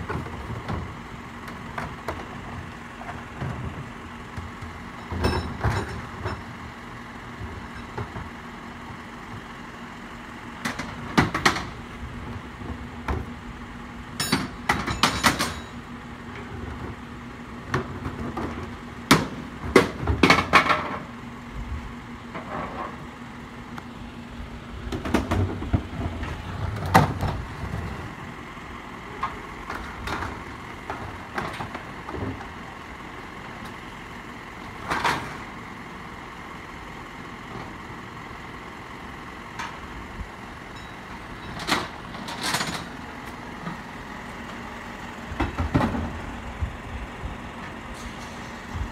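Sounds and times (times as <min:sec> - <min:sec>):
vehicle engine idling: 0:00.0 - 0:48.9.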